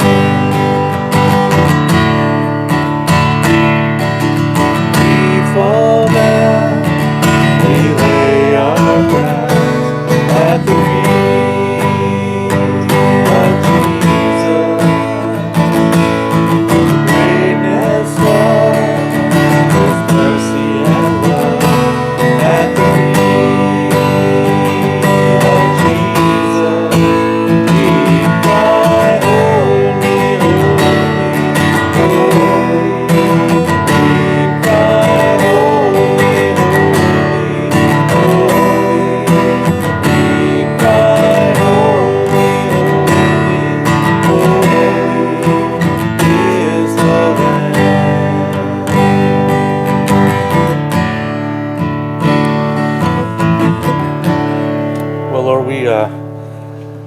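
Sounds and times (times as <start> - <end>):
acoustic guitar strumming: 0.0 - 57.0.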